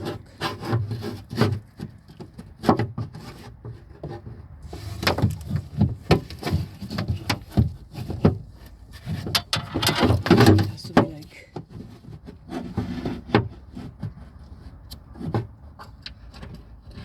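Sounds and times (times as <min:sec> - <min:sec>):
car door lock knocks and scraping: 0:00.0 - 0:17.0.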